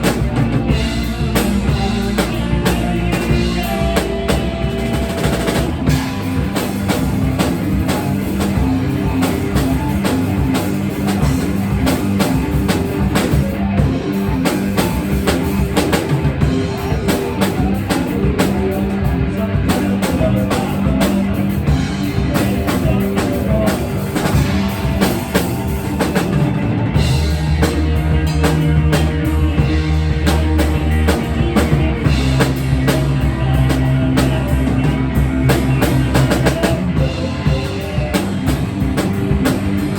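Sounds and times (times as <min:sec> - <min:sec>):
drum kit: 0:00.0 - 0:39.9
guitar: 0:00.0 - 0:39.9
sustained bass notes: 0:00.0 - 0:39.9.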